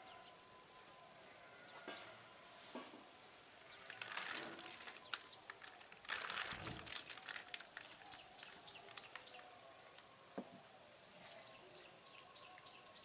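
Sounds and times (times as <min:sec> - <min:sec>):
faint birds chirping: 0:00.0 - 0:13.0
rustle: 0:00.7 - 0:10.4, 0:11.0 - 0:12.2.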